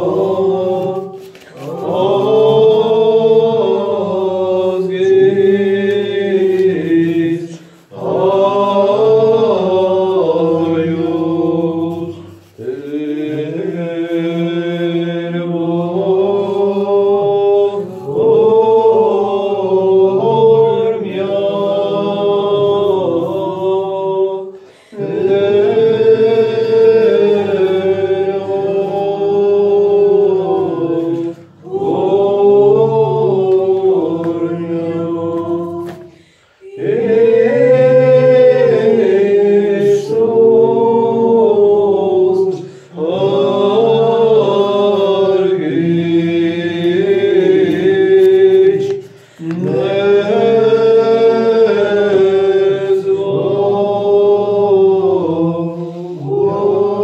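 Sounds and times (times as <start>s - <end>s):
group chanting a sung prayer: 0.0s - 57.0s.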